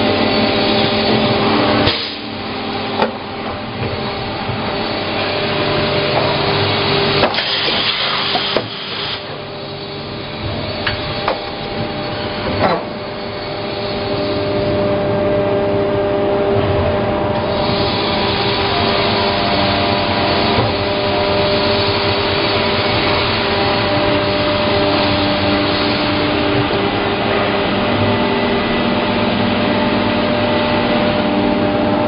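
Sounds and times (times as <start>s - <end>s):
machine hum and hiss: 0.0s - 32.0s.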